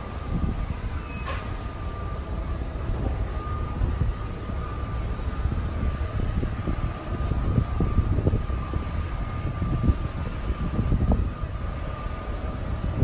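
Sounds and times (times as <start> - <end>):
high-pitched whine: 0.0 - 13.0
low rumble with buffeting: 0.0 - 13.0.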